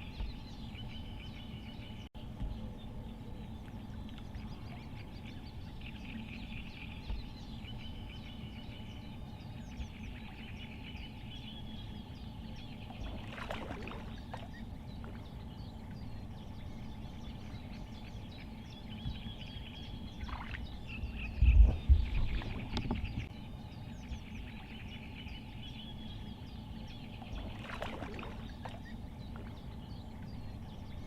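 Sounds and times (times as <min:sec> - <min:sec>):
birds chirping and trilling: 0:00.0 - 0:31.0
low outdoor rumble: 0:00.0 - 0:31.0.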